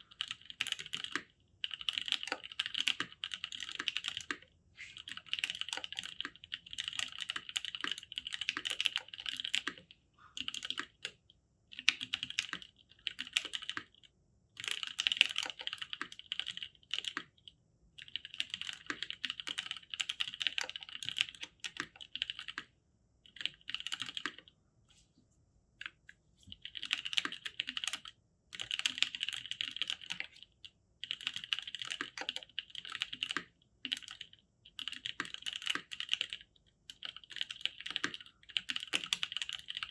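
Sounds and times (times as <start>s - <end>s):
mechanical keyboard typing: 0.1s - 14.0s, 14.6s - 24.5s, 25.8s - 39.9s.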